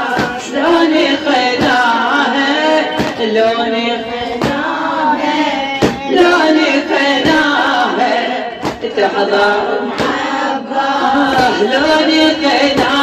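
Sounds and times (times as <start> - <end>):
woman singing a lament: 0.0 - 13.0.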